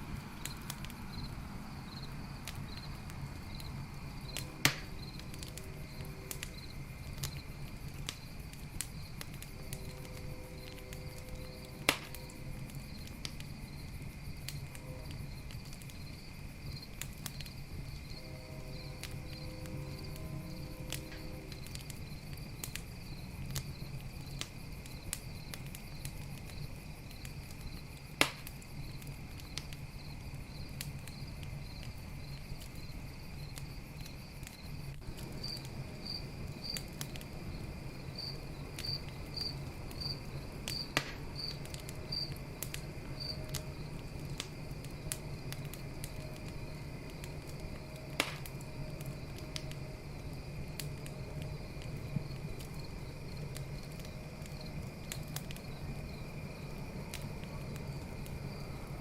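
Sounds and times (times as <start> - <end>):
campfire crackling and popping: 0.0 - 59.0
crickets chirping: 0.0 - 59.0.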